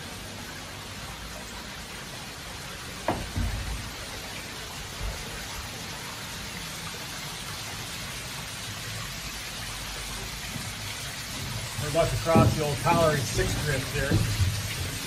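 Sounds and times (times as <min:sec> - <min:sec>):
water dripping and trickling: 0:00.0 - 0:15.0.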